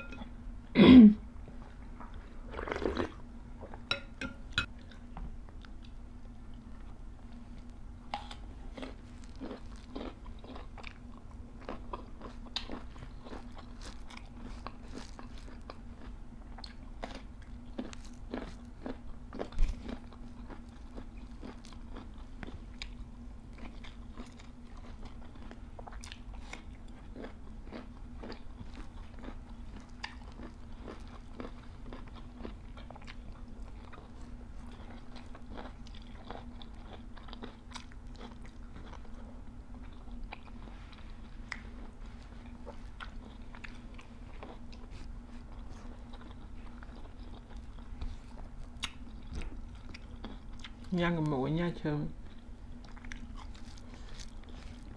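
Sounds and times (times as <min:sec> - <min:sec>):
steady low hum: 0:00.0 - 0:54.9
people chewing and crunching food: 0:01.5 - 0:04.0, 0:04.6 - 0:51.4, 0:52.2 - 0:54.9.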